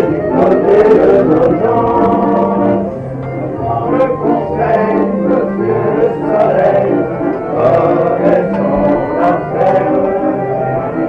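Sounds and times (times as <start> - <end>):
barrel organ playing dance tune: 0.0 - 11.0.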